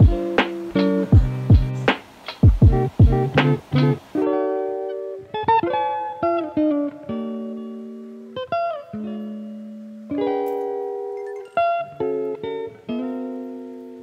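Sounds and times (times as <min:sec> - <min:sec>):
plucked guitar notes and chords: 0:00.0 - 0:14.0.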